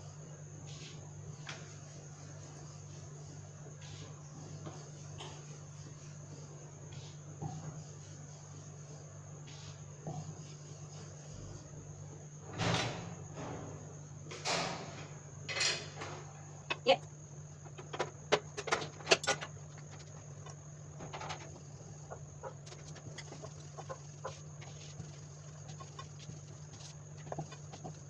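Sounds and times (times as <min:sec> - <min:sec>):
gas stove hum: 0:00.0 - 0:28.0.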